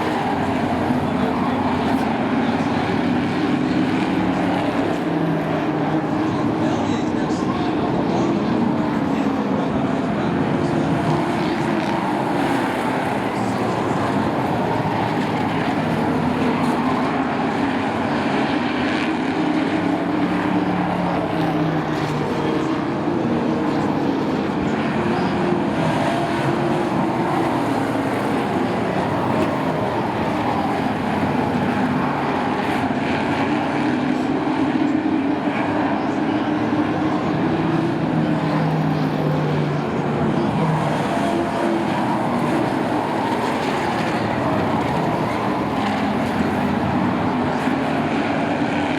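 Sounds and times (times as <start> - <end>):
race truck engines: 0.0 - 48.9.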